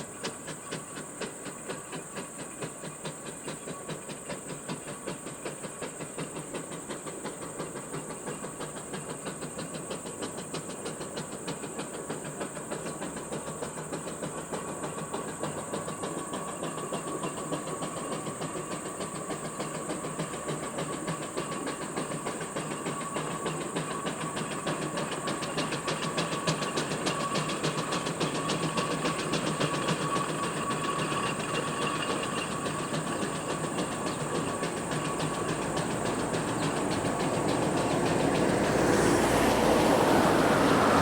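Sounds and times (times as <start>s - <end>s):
steam engine exhaust chuffing: 0.0s - 41.0s
steam hiss: 0.0s - 41.0s.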